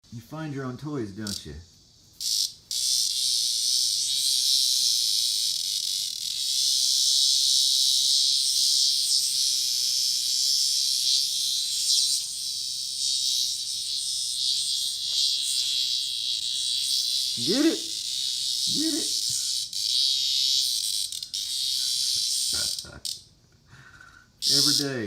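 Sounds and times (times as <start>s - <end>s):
cicada buzzing: 0.1s - 25.0s.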